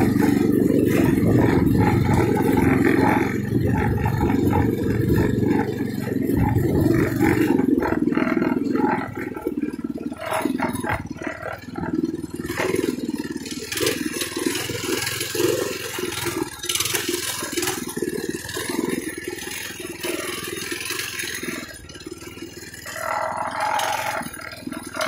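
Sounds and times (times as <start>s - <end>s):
mini bike engine surging: 0.0s - 25.0s.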